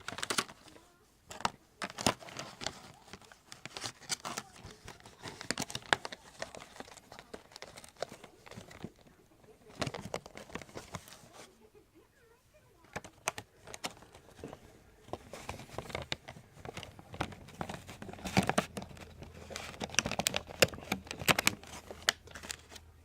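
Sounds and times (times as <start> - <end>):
cardboard packaging rustling: 0.0 - 11.6, 12.8 - 22.9.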